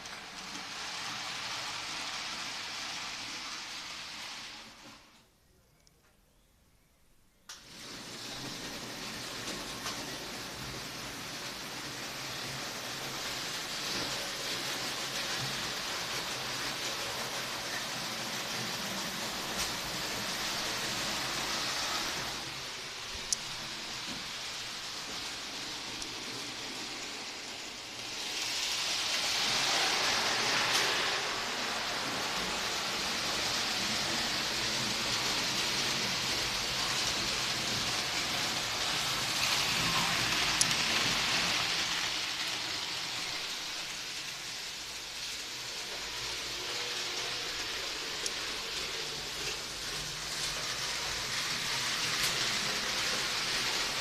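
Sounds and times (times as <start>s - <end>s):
miniature train rattling on track: 0.0s - 5.0s, 7.6s - 54.0s.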